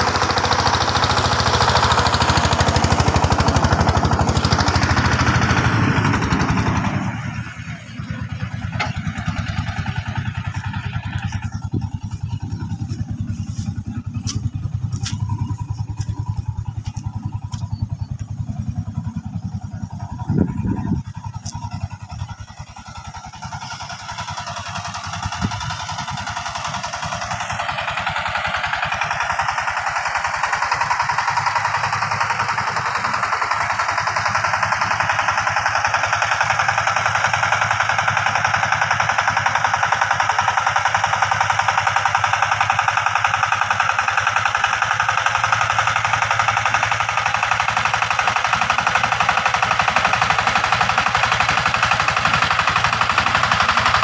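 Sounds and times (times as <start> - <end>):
diesel engine knocking: 0.0 - 54.0.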